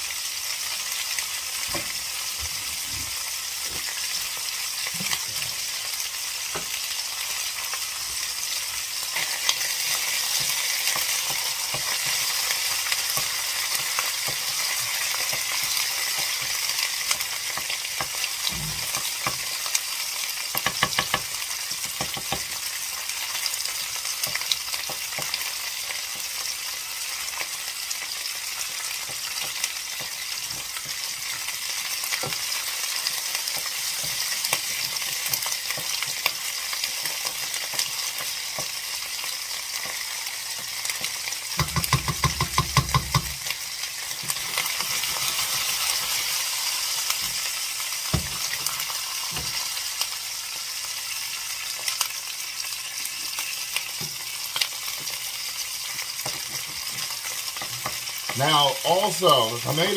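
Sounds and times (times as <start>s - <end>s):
paste sizzling in a pot: 0.0s - 59.9s.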